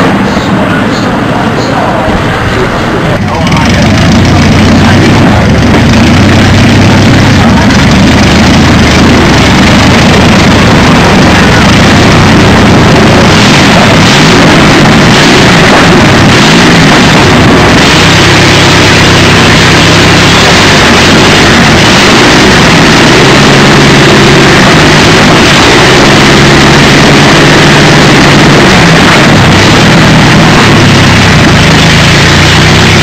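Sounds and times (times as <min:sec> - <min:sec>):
aero engine running loudly: 0:00.0 - 0:33.0.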